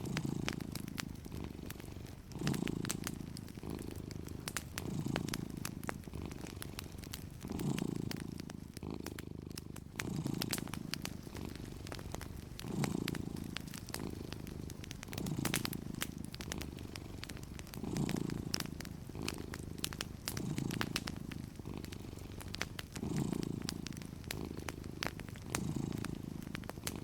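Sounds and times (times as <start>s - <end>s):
cat purring: 0.0s - 27.0s
wood fire crackling: 0.0s - 27.0s.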